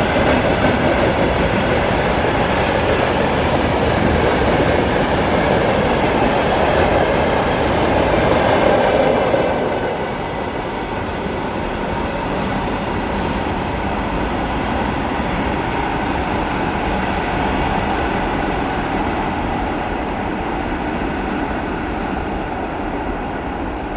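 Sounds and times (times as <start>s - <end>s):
freight train rolling on rails: 0.0s - 23.9s.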